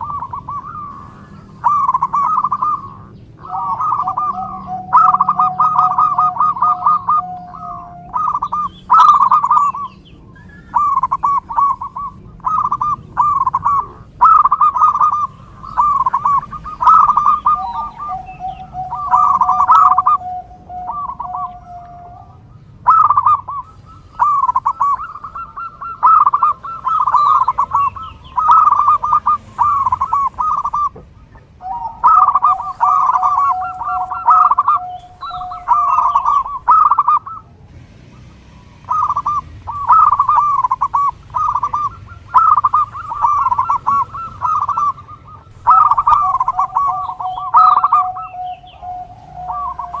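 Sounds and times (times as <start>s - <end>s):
dove cooing: 0.0s - 50.0s.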